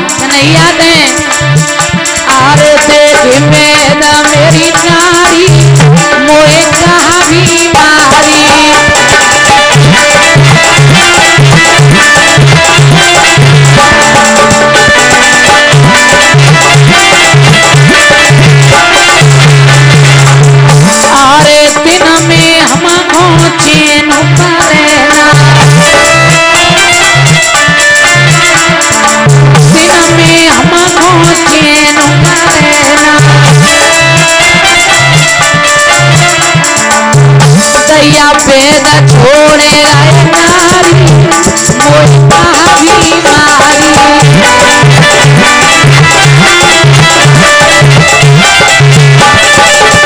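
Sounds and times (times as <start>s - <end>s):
hand drum rhythm: 0.0s - 50.0s
rattling percussion: 0.0s - 50.0s
sustained melody: 7.0s - 38.4s, 39.7s - 50.0s.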